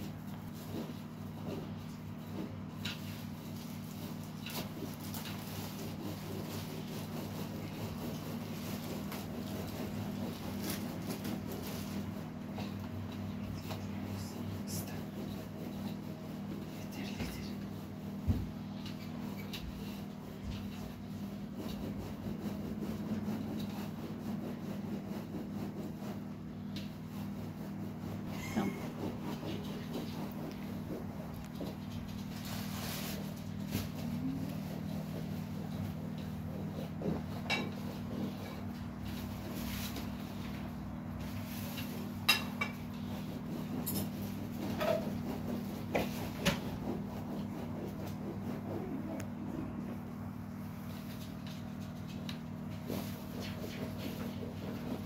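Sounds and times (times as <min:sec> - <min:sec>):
hands kneading mixture in steel tray: 0:00.0 - 0:55.0
steady low hum: 0:00.0 - 0:55.0.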